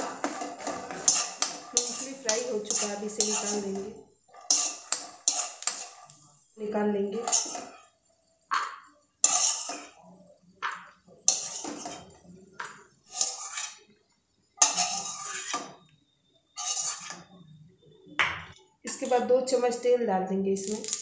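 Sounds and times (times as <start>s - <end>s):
steel spoon scraping a pan: 0.0s - 13.9s, 14.5s - 15.9s, 16.5s - 17.5s, 18.9s - 19.4s.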